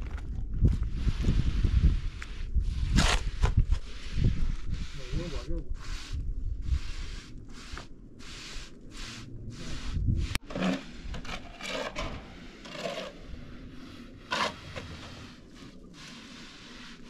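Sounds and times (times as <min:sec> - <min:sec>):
scraping strokes: 0:00.9 - 0:17.0.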